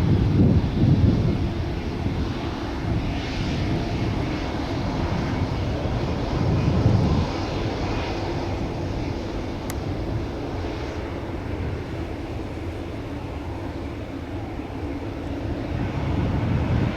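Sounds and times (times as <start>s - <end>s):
jet engine rumble during takeoff: 0.0s - 16.9s.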